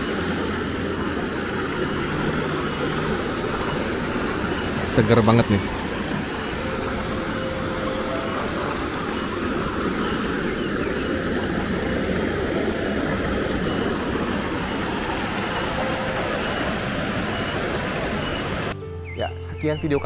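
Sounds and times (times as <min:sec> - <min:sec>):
river water rushing: 0:00.0 - 0:18.8.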